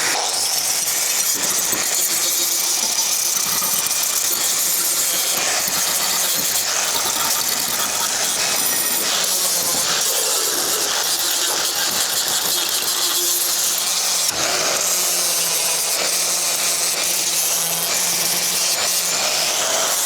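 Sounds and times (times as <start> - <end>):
power tool grinding metal: 0.0 - 20.0.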